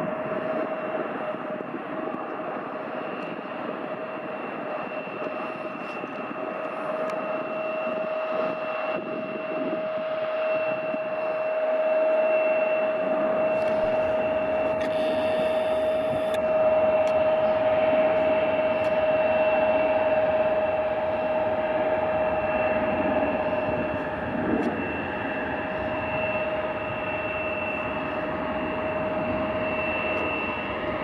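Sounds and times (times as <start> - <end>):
jet engines roaring with whine: 0.0 - 31.0.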